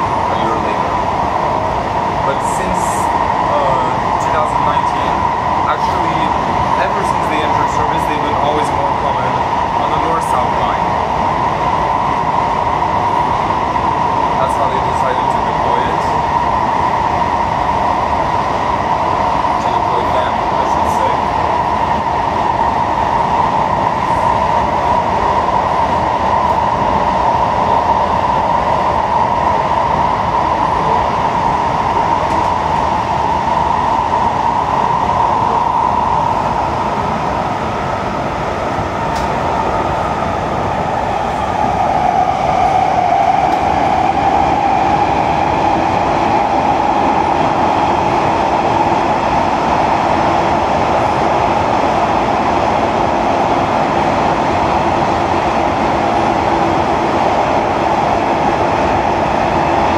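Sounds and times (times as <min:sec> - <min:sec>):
metro train rumble and whine: 0:00.0 - 0:59.9.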